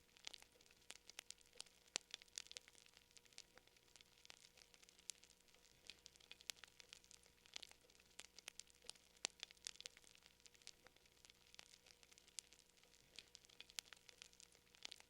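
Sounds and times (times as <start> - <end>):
soft hiss: 0.0 - 15.0
wood fire crackling: 0.0 - 15.0.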